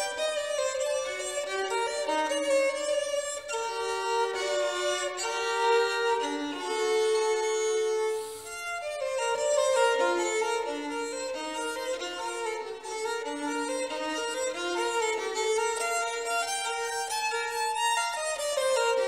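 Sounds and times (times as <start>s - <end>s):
violin playing slow melody: 0.0s - 19.0s.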